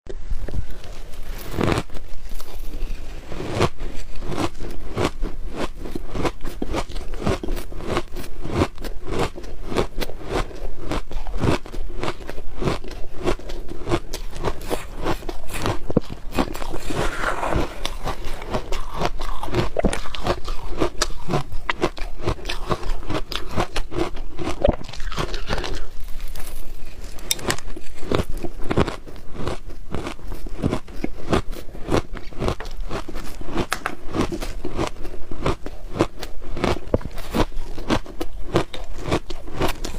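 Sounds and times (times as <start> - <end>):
person crunching shaved ice: 0.4 - 39.9.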